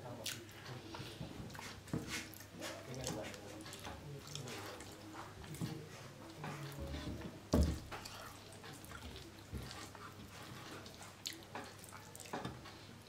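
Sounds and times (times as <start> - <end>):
wet eating sounds: 0.0 - 13.0.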